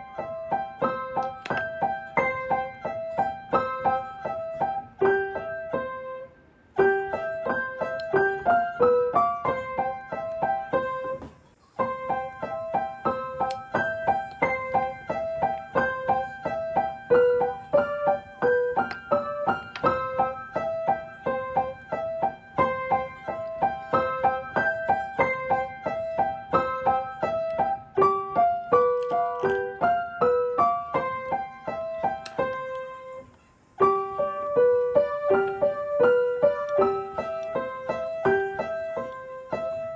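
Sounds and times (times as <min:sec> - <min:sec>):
light piano melody: 0:00.0 - 0:39.9.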